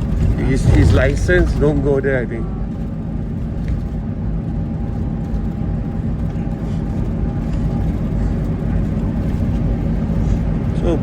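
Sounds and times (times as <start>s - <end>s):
minibus engine and road noise: 0.0s - 11.0s.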